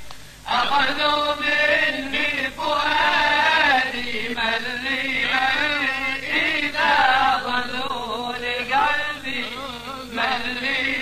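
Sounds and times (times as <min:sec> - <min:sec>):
men chanting a hymn: 0:00.4 - 0:11.0.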